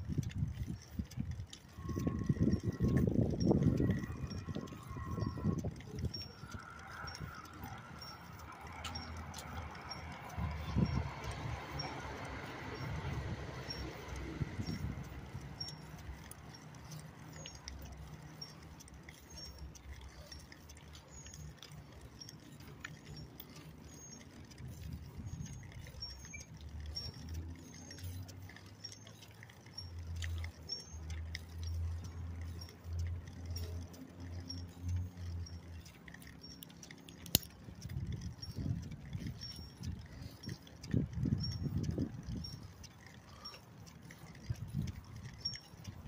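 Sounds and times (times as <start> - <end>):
bicycle riding rumble: 0.0 - 46.0.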